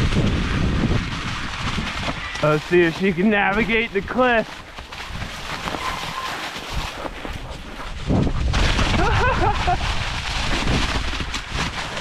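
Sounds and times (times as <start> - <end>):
bike rolling over rocky trail: 0.0 - 12.0
wind buffeting microphone: 0.0 - 12.0.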